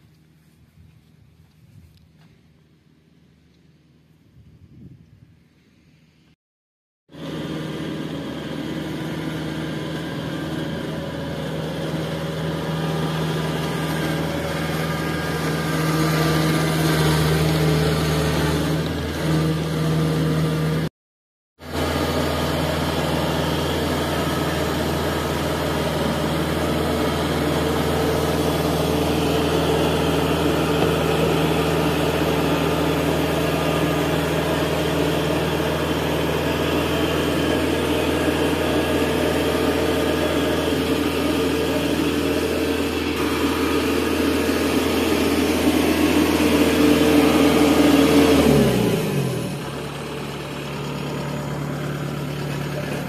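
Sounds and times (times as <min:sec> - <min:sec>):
combine harvester diesel engine: 0:07.1 - 0:20.9, 0:21.6 - 0:53.0.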